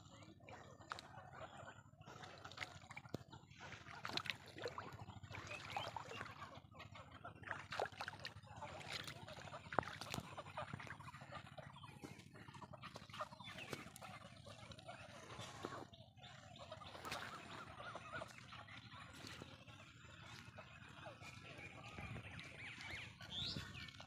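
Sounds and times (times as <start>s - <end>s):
geese and ducks honking: 0.1s - 24.0s.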